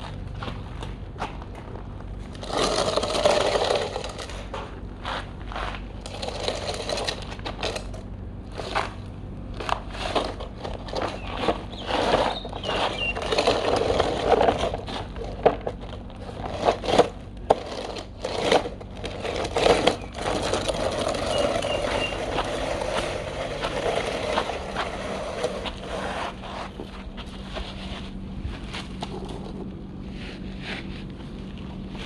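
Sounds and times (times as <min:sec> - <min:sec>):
steady low hum: 0:00.0 - 0:32.0
toy excavator scraping dirt: 0:02.2 - 0:31.1.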